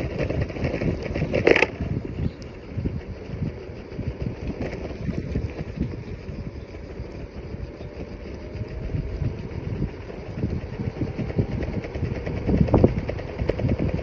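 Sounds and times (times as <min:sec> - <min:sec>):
scooter motor: 0:00.0 - 0:14.0
wind buffeting microphone: 0:00.0 - 0:14.0.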